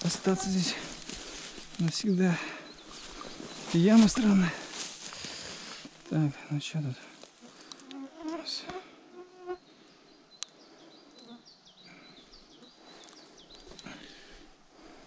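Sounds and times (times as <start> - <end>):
flying insects buzzing: 0.0 - 13.4.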